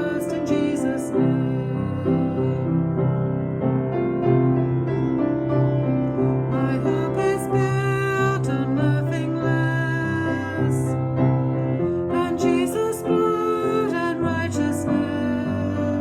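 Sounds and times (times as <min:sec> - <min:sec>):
slow worship song with piano: 0:00.0 - 0:16.0.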